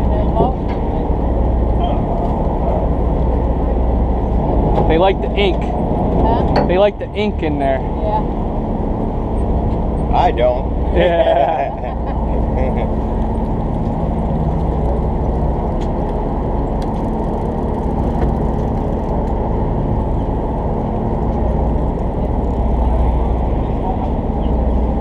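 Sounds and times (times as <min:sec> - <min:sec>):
boat motor droning: 0:00.0 - 0:25.0.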